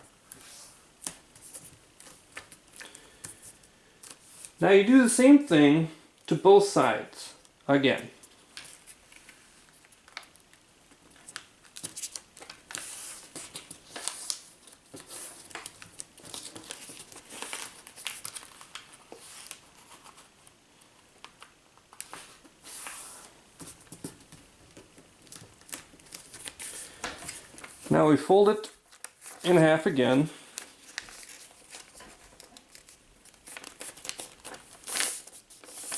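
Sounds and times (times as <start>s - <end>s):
paper rustling and crinkling: 0.2s - 4.6s, 8.2s - 28.0s, 28.7s - 35.9s.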